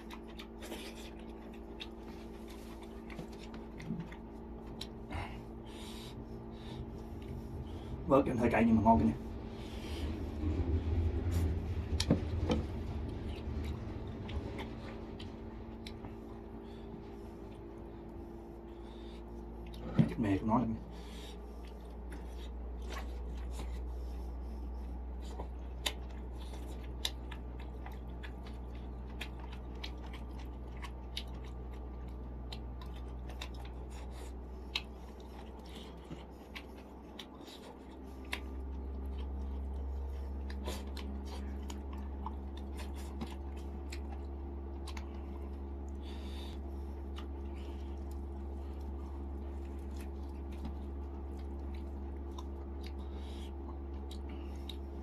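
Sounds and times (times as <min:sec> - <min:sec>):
chewing and eating sounds: 0:00.0 - 0:55.0
low hum: 0:00.0 - 0:55.0.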